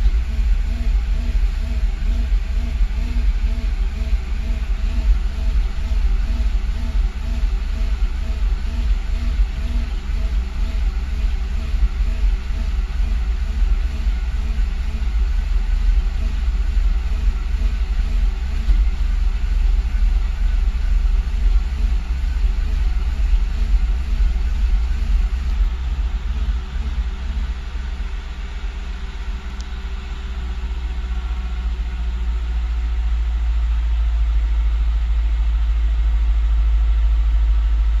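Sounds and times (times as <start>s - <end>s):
car engine rough idle: 0.0s - 38.0s.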